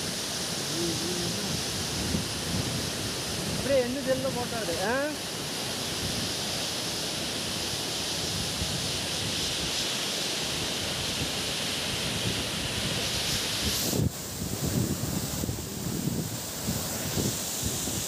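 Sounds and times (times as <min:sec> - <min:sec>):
waterfall rushing into pool: 0:00.0 - 0:18.0.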